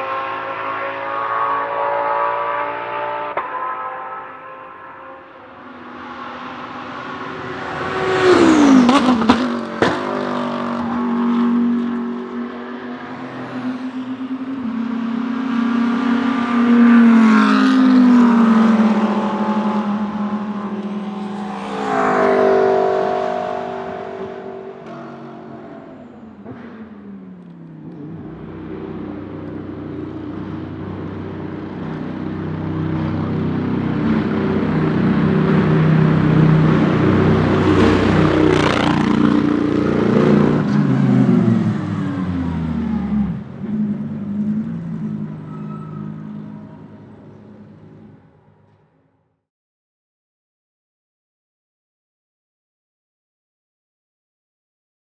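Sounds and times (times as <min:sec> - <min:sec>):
race cars passing by: 0:00.0 - 0:48.9.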